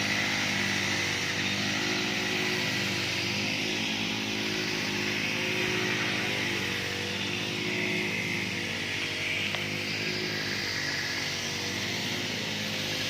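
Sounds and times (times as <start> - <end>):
grass cutter petrol engine running: 0.0 - 13.0.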